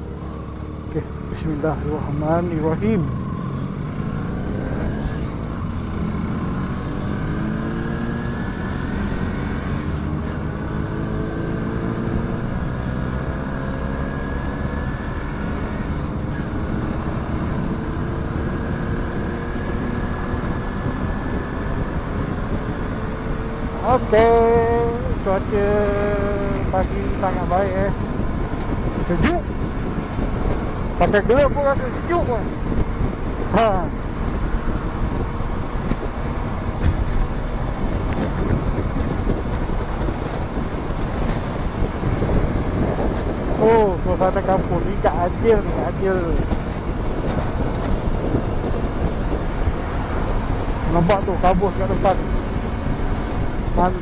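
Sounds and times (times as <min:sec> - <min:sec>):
motorcycle engine running: 0:00.0 - 0:54.0
tyres on road: 0:00.0 - 0:54.0
wind noise: 0:01.4 - 0:54.0.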